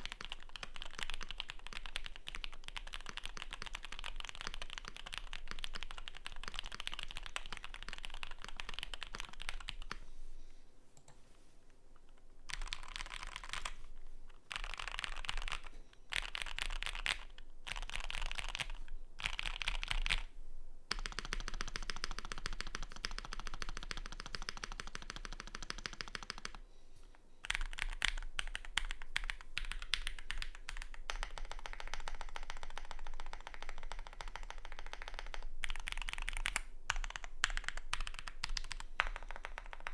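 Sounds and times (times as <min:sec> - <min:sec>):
mechanical keyboard typing: 0:00.0 - 0:10.0, 0:12.5 - 0:13.8, 0:14.5 - 0:20.3, 0:20.9 - 0:26.6, 0:27.4 - 0:39.9.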